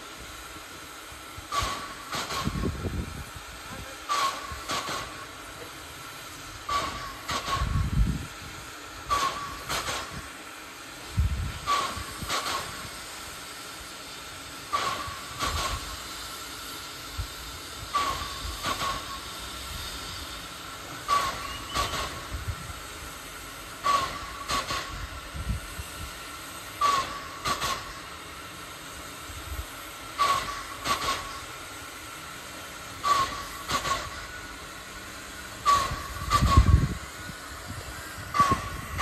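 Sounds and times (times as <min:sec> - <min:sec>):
sharp locomotive puffs: 0:00.0 - 0:39.0
steam hissing: 0:00.0 - 0:39.0.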